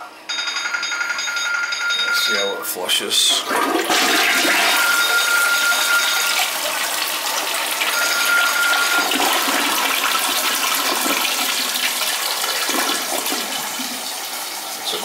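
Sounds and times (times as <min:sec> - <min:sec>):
toilet flushing: 0:02.8 - 0:15.0.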